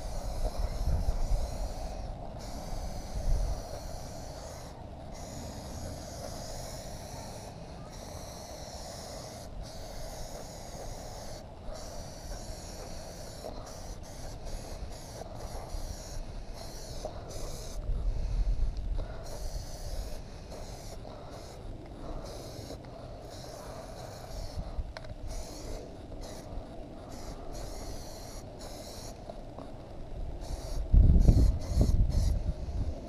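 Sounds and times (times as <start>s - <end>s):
aerosol can spraying: 0.0s - 29.8s, 30.4s - 32.8s.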